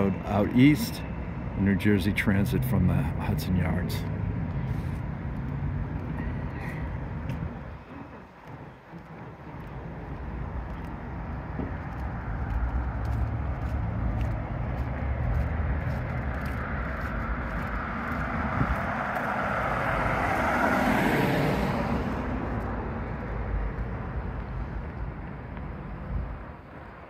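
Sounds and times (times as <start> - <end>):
low traffic rumble: 0.0 - 27.0
car tyres passing: 3.0 - 27.0.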